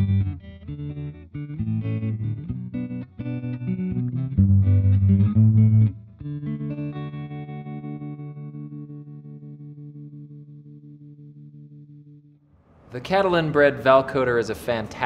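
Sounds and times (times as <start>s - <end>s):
electric guitar with tremolo: 0.0s - 12.6s.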